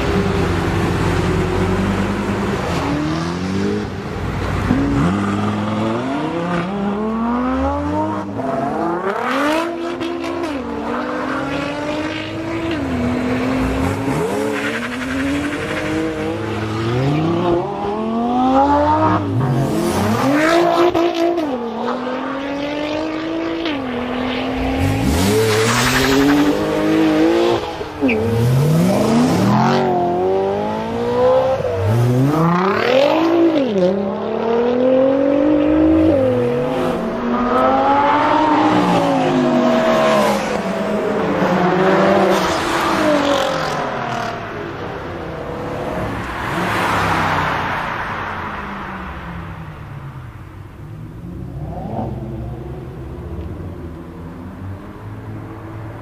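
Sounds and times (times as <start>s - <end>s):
car engines accelerating hard: 0.0s - 56.0s.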